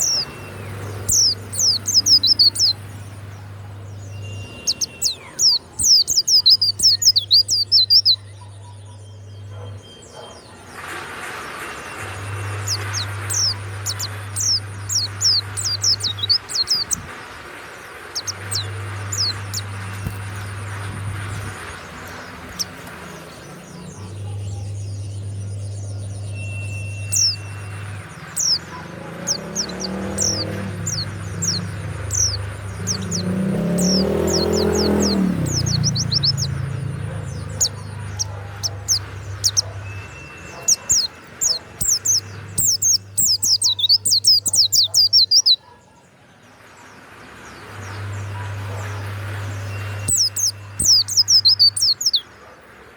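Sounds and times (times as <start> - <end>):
bird chirping: 0.0 - 10.7, 11.7 - 46.1, 47.4 - 52.5
engine: 0.0 - 52.9.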